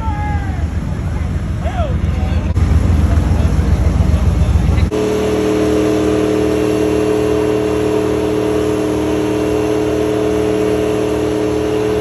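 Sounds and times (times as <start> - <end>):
truck engine revving high: 2.4 - 12.0.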